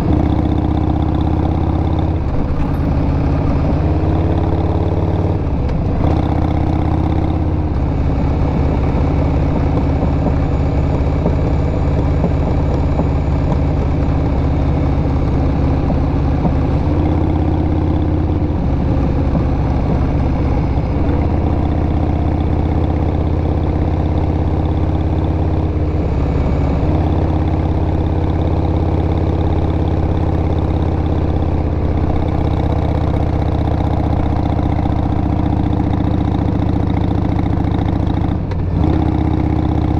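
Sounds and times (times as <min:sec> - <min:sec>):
motorcycle v-twin engine running: 0:00.0 - 0:39.9.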